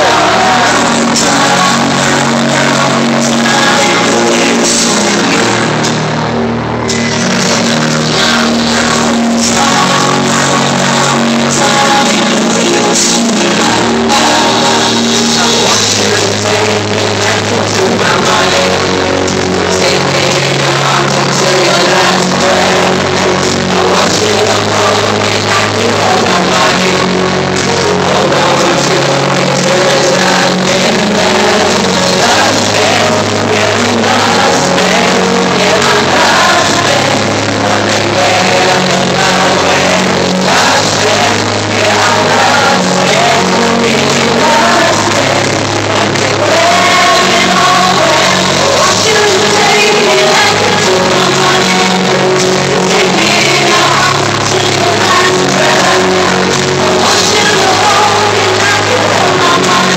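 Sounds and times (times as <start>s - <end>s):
crowd shouting: 0.0s - 6.1s, 6.8s - 59.9s
person singing: 0.0s - 59.9s.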